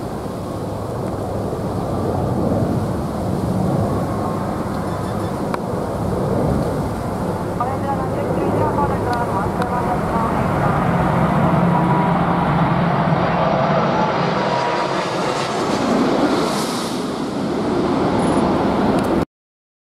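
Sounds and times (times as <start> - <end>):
jet engines roaring overhead: 0.0 - 19.2.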